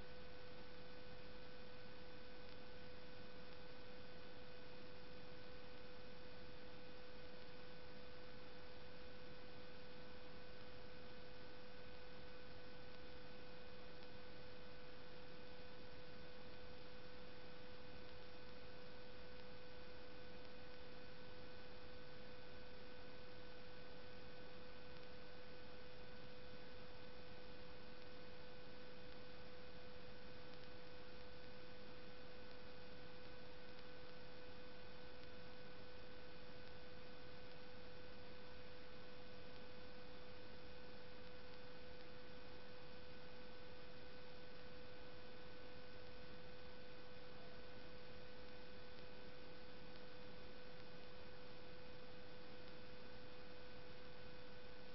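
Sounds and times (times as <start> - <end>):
constant hiss: 0.0 - 54.9
electrical hum: 0.0 - 54.9.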